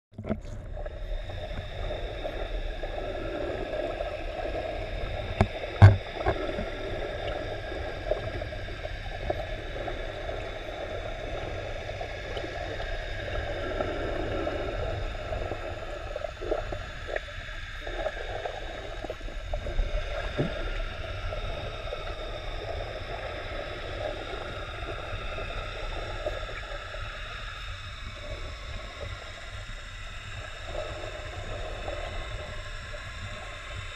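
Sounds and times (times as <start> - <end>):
muffled underwater water noise: 0.1 - 33.9
faint steady tones: 0.2 - 33.9.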